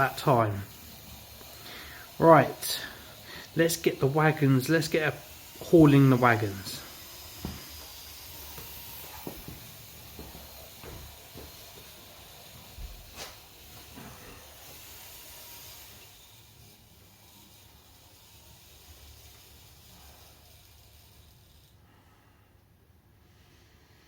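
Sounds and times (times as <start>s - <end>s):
plastic wagons clicking on track: 0.0s - 21.8s
faint steady hiss: 0.0s - 24.0s.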